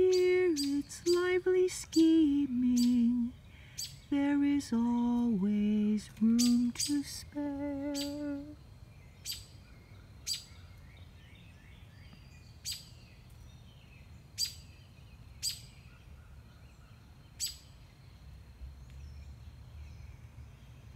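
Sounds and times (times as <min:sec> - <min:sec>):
faint warbling birdsong: 0:00.0 - 0:20.9
low steady hum: 0:00.0 - 0:20.9.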